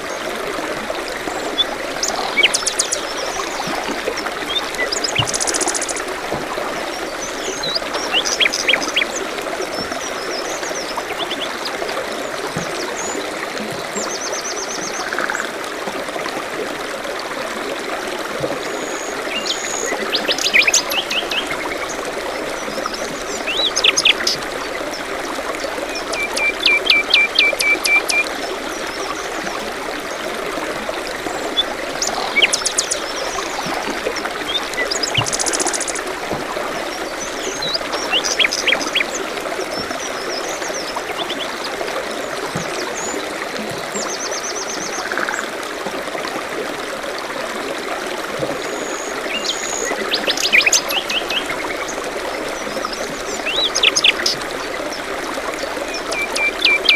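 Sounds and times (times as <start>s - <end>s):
stream trickling: 0.0s - 56.9s.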